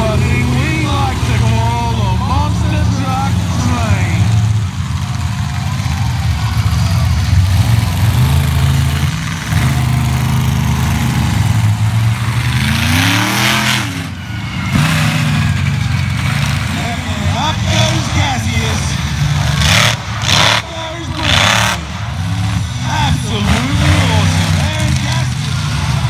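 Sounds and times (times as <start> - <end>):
engine revving: 0.0 - 26.0
truck engines running: 0.0 - 26.0.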